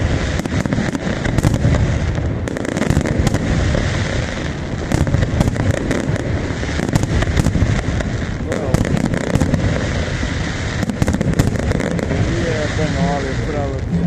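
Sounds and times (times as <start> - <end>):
fireworks bangs and crackles: 0.0 - 14.0
low rumble of explosions: 0.0 - 14.0.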